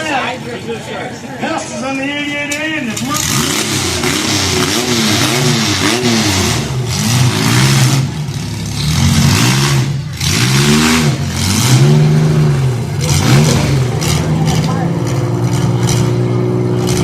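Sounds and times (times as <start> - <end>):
car engines revving: 0.0 - 17.0
loud rough din: 3.0 - 17.0.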